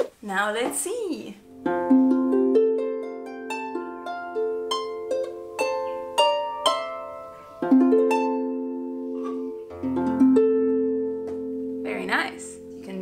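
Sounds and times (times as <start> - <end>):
harp plucked notes and chords: 1.4 - 13.0.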